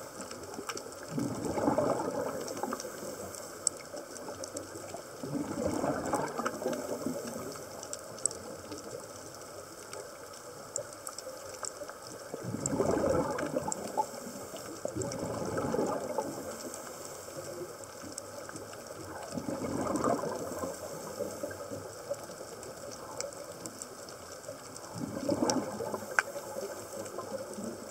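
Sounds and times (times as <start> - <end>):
exhaled bubbles underwater: 0.0 - 27.9
faint crackle of fine clicks: 0.0 - 27.9.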